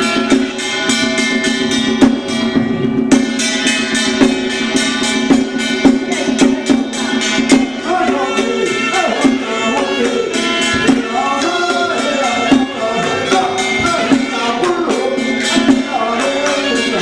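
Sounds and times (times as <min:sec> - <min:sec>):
percussion strikes: 0:00.0 - 0:17.0
sliding melody: 0:00.0 - 0:17.0.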